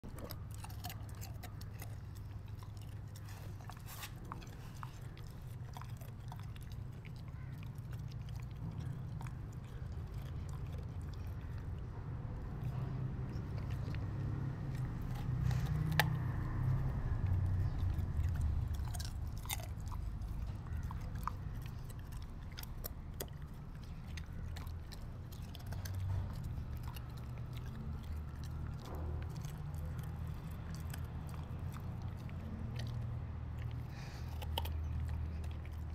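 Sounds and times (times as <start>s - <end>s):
puppy crunching carrot: 0.0s - 35.9s.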